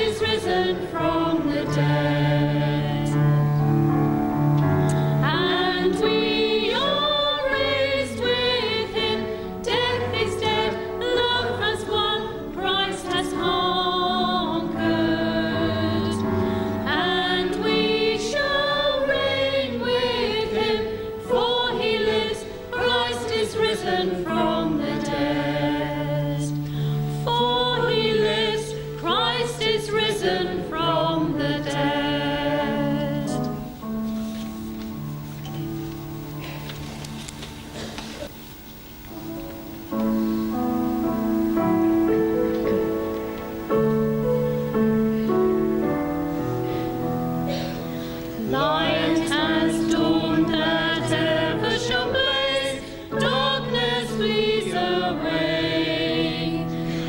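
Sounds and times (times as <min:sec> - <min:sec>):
voices singing a hymn: 0:00.0 - 0:35.6, 0:39.7 - 0:57.0
sustained low accompanying notes: 0:00.0 - 0:52.5.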